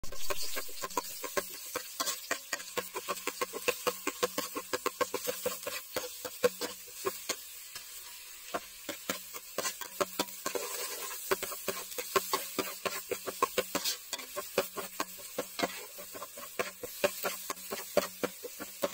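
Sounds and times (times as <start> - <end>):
garlic sizzling in hot oil: 0.0 - 18.9
ladle scraping and tapping pot: 0.0 - 18.9.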